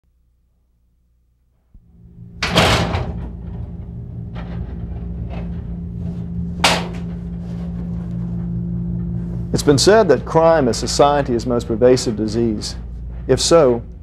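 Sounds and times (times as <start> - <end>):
steady hum: 0.1 - 14.0.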